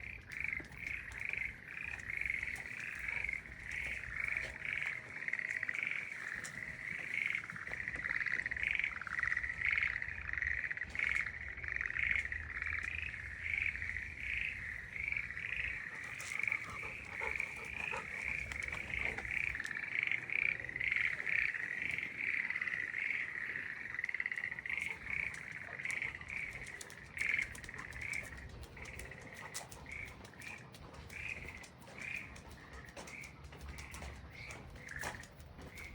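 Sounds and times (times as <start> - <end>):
chorus of frogs calling: 0.0 - 35.9.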